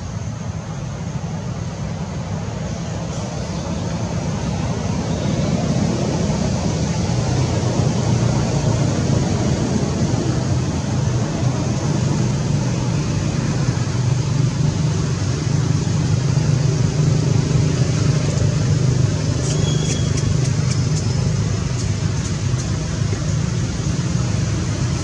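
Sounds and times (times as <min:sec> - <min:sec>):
motor vehicle drone: 0:00.0 - 0:25.0.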